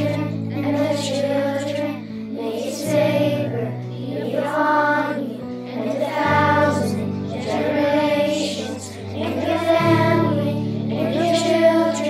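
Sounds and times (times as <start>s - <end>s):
children's choir singing: 0.0s - 12.0s
instrumental accompaniment: 0.0s - 12.0s.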